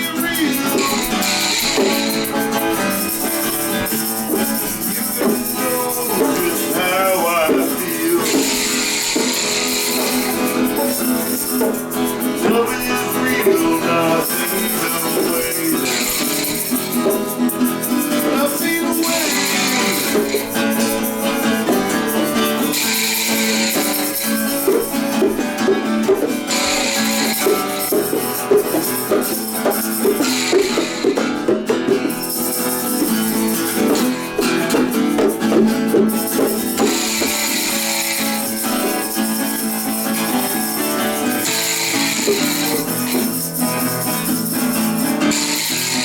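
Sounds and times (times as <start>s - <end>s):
guitar picking notes: 0.0s - 46.0s
hand percussion rattling: 0.0s - 46.0s.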